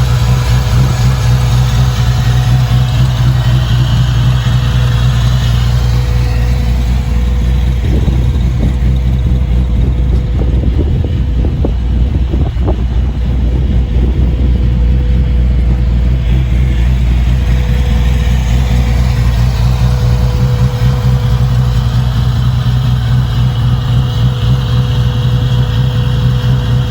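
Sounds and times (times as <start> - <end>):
truck engine idling: 0.0 - 26.9.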